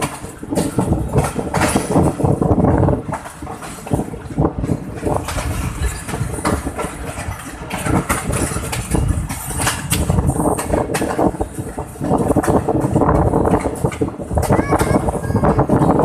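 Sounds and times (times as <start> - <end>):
train wheels clattering on rails: 0.0 - 16.0
wind rushing over microphone: 0.0 - 16.0.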